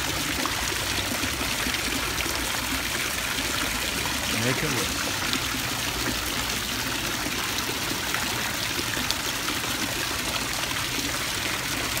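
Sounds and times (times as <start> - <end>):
fountain water splashing into pool: 0.0 - 12.0.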